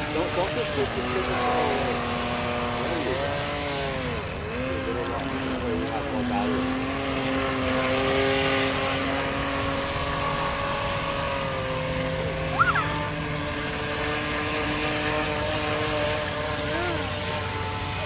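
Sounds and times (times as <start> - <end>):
rc boat motor whining: 0.0 - 18.0.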